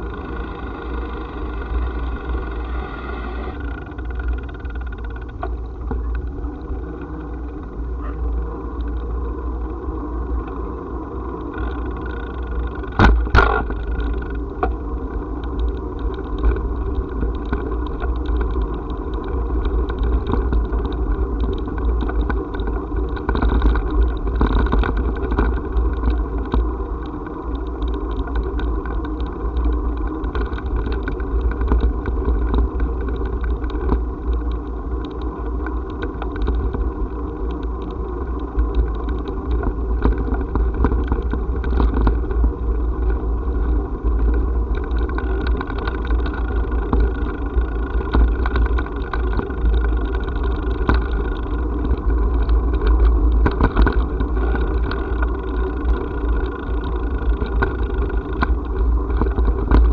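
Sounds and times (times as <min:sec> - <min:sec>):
bicycle rolling over bricks: 0:00.0 - 0:59.9.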